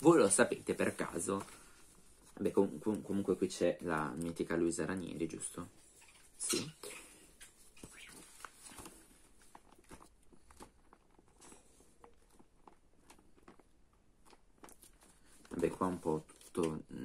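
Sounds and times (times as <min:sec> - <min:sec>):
magazine pages turning: 0:00.0 - 0:05.7, 0:07.5 - 0:16.8.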